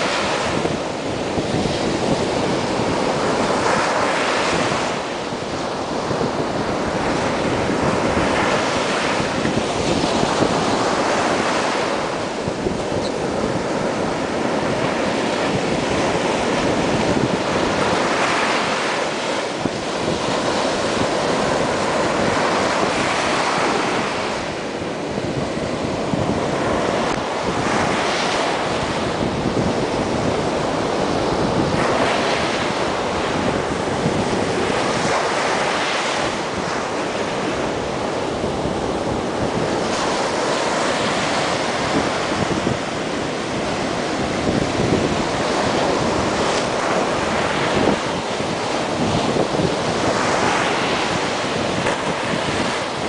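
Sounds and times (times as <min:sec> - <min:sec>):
waves breaking on beach: 0:00.0 - 0:53.0
wind buffeting microphone: 0:00.0 - 0:53.0.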